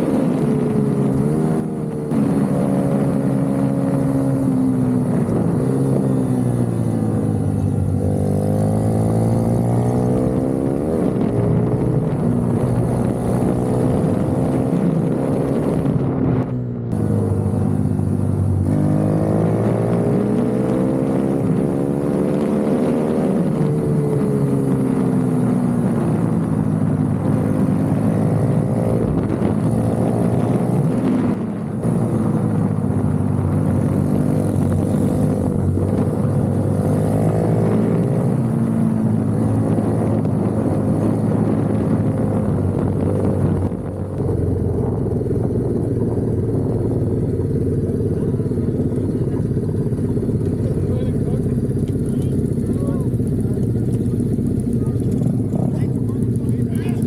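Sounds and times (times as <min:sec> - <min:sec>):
minibike engine revving: 0:00.0 - 0:57.0
other minibike engines: 0:00.0 - 0:57.0.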